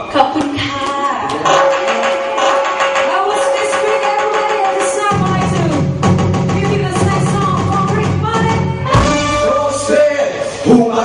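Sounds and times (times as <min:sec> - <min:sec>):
music with held notes and beat: 0:00.9 - 0:10.0.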